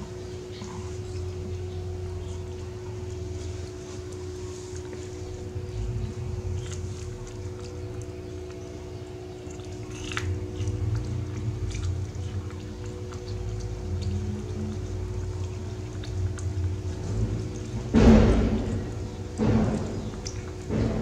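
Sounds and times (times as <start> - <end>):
steady low hum: 0.0 - 21.0
monkey chewing corn crunches: 2.2 - 21.0.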